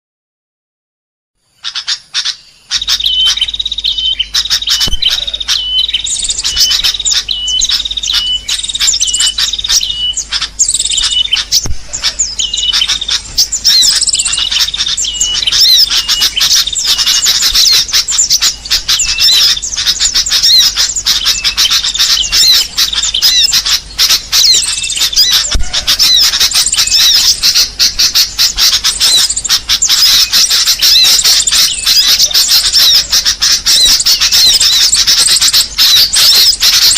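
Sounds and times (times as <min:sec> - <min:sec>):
small birds chirping: 0:01.4 - 0:36.9.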